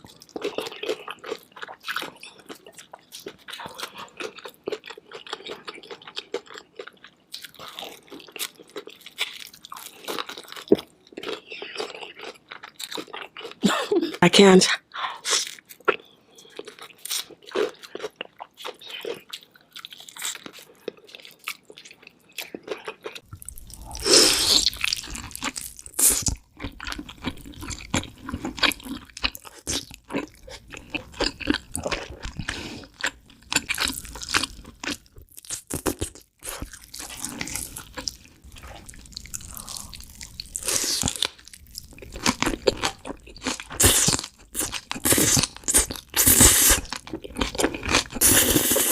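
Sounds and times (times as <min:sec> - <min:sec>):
person chewing crunchy food: 0:00.0 - 0:14.2, 0:15.2 - 0:48.9.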